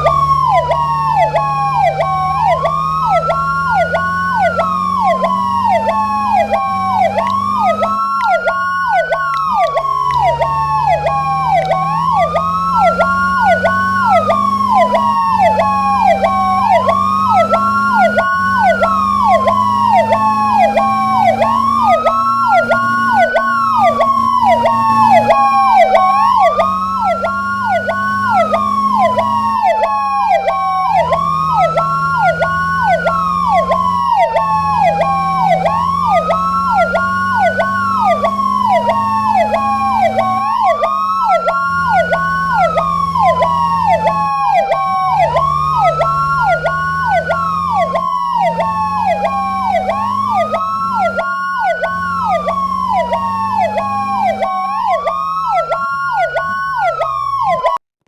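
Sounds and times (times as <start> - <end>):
fast siren yelp: 0.0 - 57.8
fire engine siren wailing: 0.0 - 57.9.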